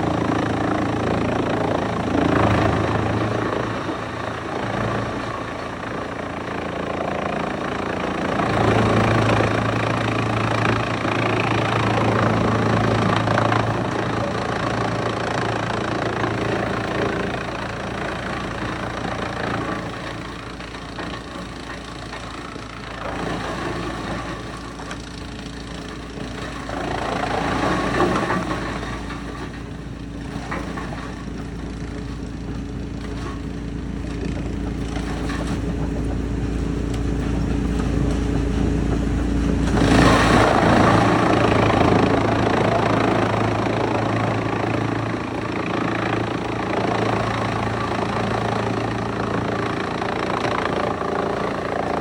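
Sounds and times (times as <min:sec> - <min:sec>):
wood chipper running: 0:00.0 - 0:52.0.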